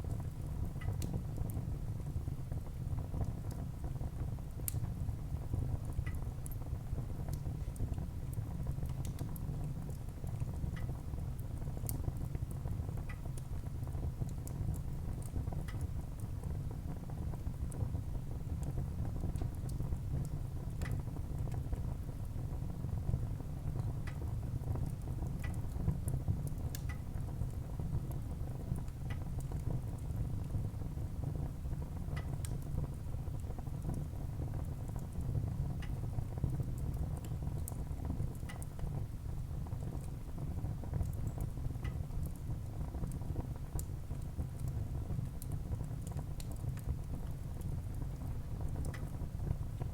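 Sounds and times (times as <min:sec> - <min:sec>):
low steady fire rumble: 0:00.0 - 0:49.9
wood fire crackling and popping: 0:00.1 - 0:49.9.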